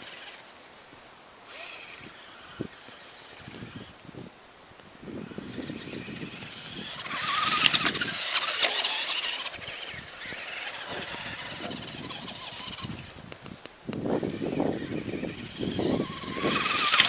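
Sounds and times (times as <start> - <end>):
electric motor whining: 0.0 - 0.6, 1.4 - 4.4, 5.0 - 17.0.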